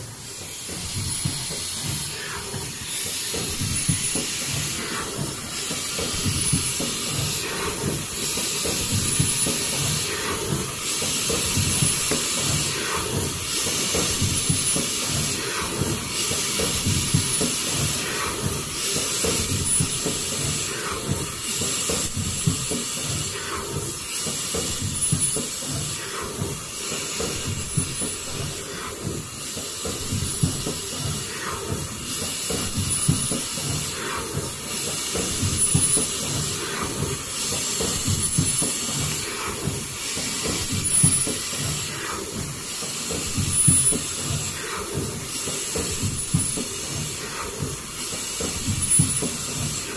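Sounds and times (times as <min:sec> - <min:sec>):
machine hissing and rattling: 0:00.0 - 0:49.9.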